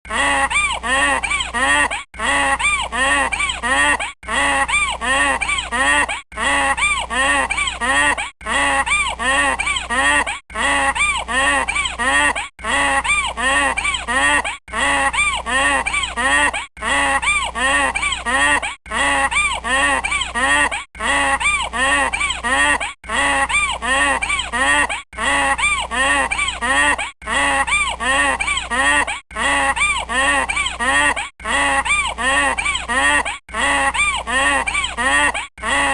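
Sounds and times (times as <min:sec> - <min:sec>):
donkey braying: 0:00.1 - 0:35.9.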